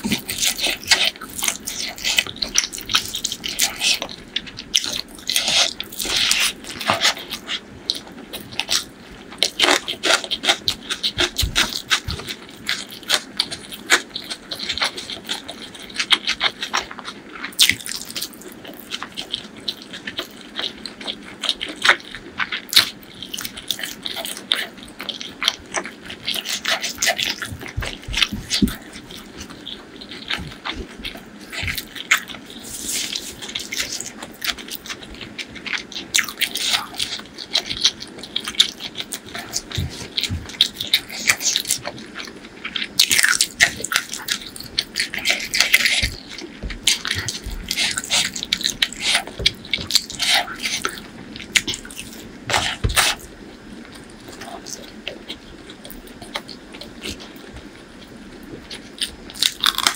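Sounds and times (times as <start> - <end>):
wet chewing: 0.0 - 59.9.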